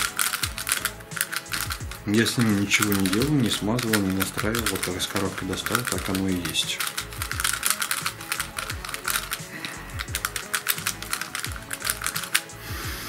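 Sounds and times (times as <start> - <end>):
puzzle cube clicking and clacking: 0.0 - 12.7
background music: 0.0 - 13.0.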